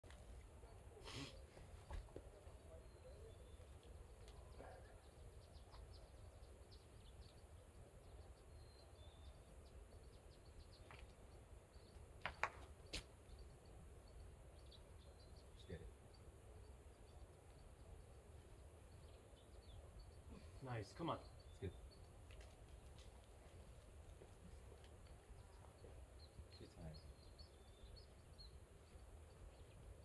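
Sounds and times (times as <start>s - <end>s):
faint bird chirps: 0.6s - 12.1s, 12.8s - 30.0s.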